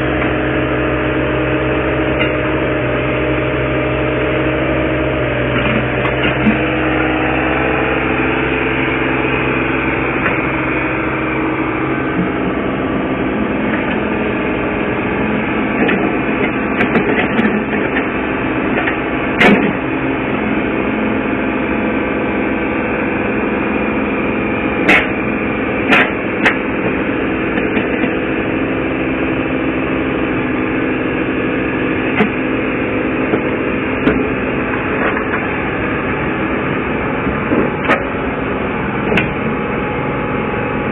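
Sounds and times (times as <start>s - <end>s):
diesel excavator engine running: 0.0s - 40.9s.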